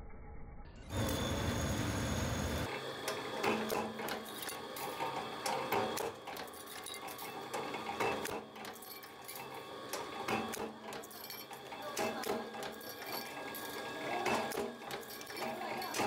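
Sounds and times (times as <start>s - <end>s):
low machine hum: 0.8s - 16.0s
metallic clicks and clanks: 2.6s - 16.0s.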